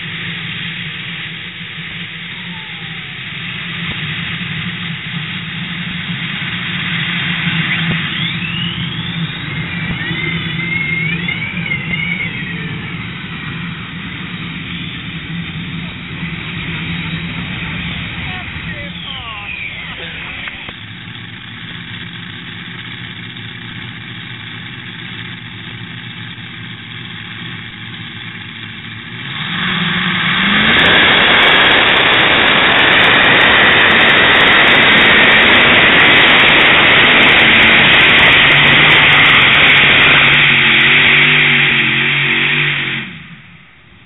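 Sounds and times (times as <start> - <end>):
tractor engine revving: 0.0 - 44.0.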